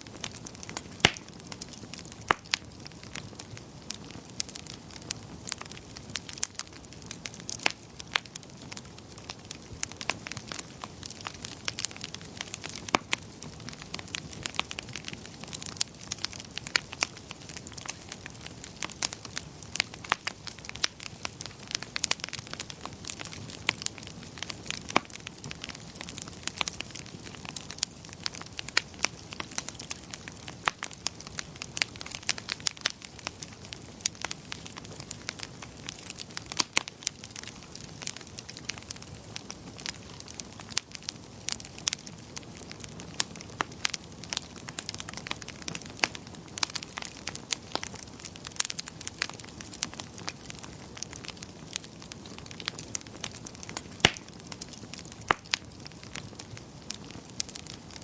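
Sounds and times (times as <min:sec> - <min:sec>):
sharp pops and snaps of fire: 0:00.0 - 0:58.0
wood fire crackling: 0:00.0 - 0:58.0.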